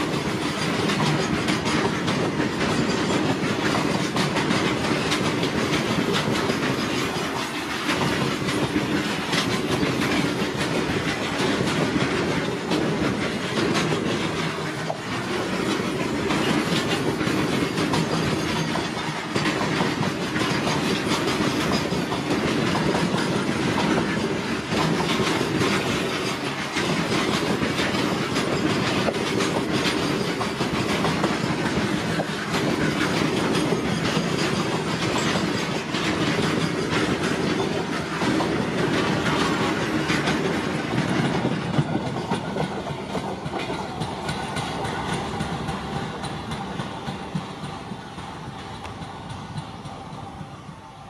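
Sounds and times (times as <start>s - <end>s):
freight train wheels clattering: 0.0s - 51.0s.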